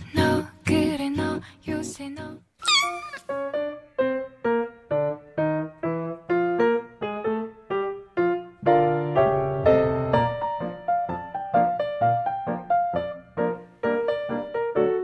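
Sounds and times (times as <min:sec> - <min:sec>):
light piano melody: 0:02.7 - 0:15.0.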